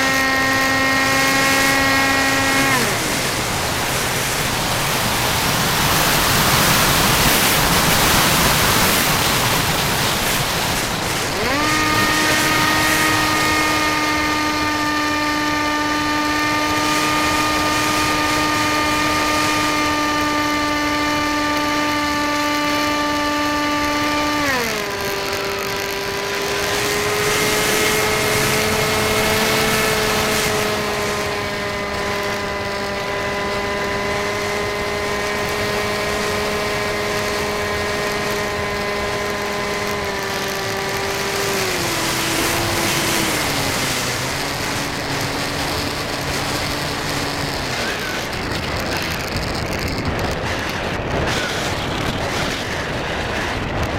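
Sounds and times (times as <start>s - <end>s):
model airplane motor whining: 0.0s - 53.9s.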